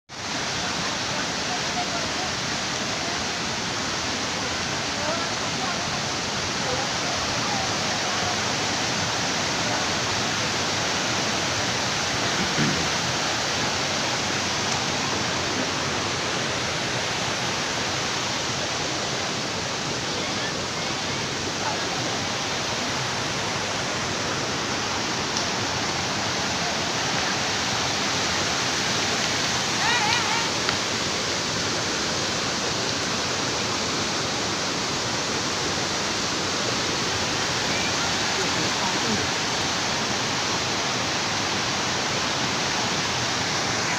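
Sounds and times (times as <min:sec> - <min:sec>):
waterfall crashing into pool: 0:00.1 - 0:43.9.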